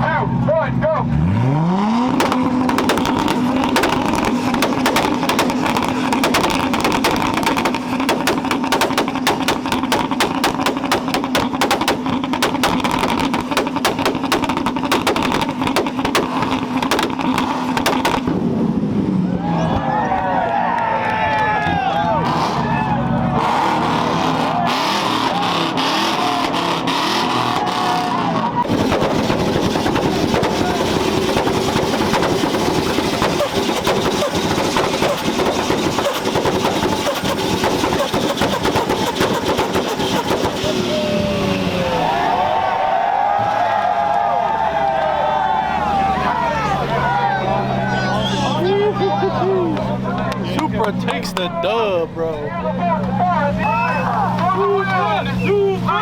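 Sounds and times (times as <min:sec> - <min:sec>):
car engine drone: 0:00.0 - 0:56.0
exhaust bangs and pops: 0:01.2 - 0:20.2, 0:28.6 - 0:56.0.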